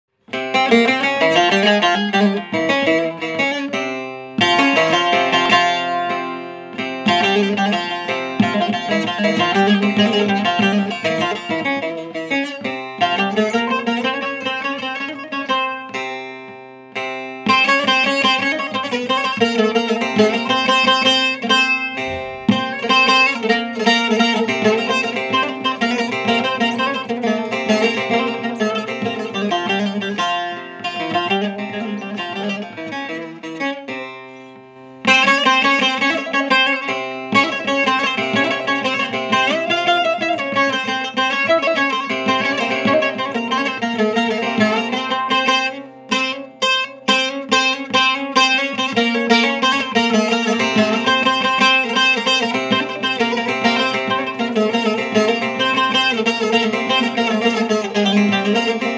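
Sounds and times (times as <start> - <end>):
plucked lute improvisation: 0.1 - 58.9.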